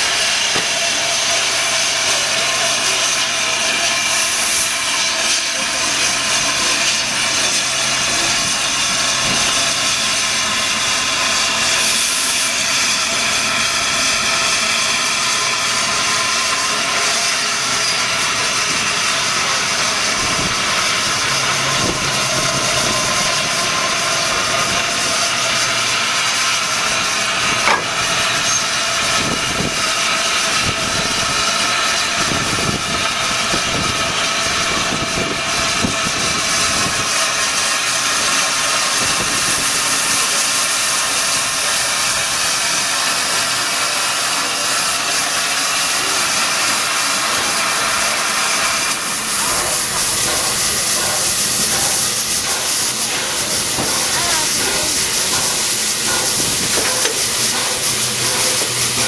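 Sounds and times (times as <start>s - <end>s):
steam hissing: 0.0s - 59.0s.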